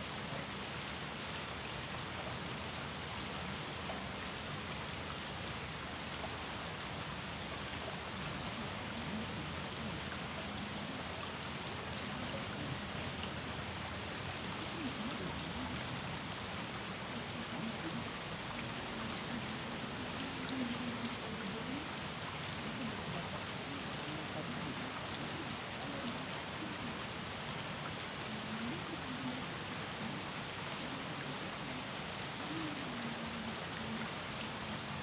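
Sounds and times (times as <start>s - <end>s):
rain falling on a pond: 0.0s - 35.0s.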